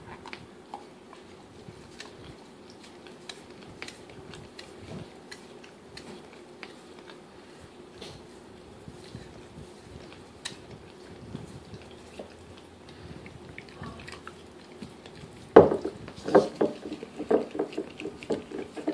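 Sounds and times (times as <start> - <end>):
dog chewing a bone: 0.0 - 18.9
dog licking a bone: 0.3 - 18.9.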